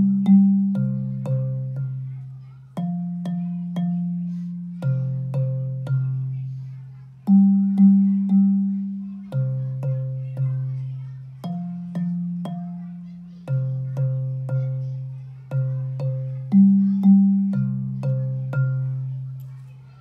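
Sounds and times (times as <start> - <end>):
bass xylophone notes: 0.0 - 19.5.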